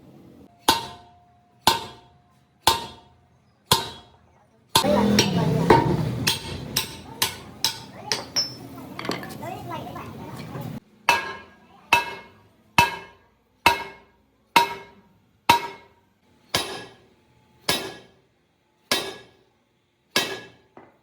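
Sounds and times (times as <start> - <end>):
hammer striking metal: 0.5 - 9.3, 11.0 - 18.2, 18.8 - 19.4, 20.1 - 20.9.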